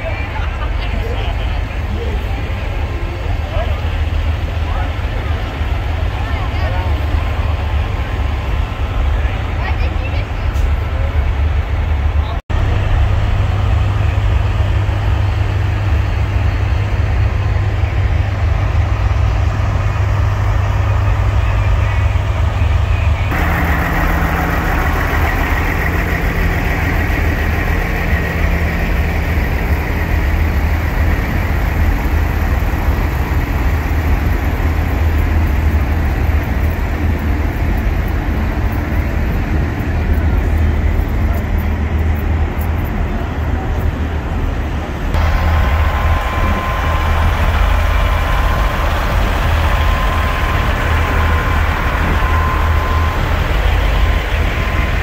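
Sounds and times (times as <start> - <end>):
diesel engines rumbling: 0.0 - 55.0.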